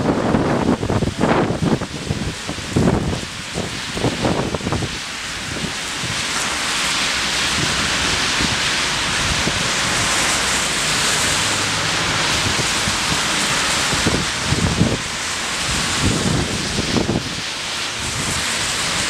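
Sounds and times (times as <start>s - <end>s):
wind buffeting microphone: 0.0s - 6.5s, 7.2s - 19.0s
rain rushing hiss: 0.0s - 19.0s.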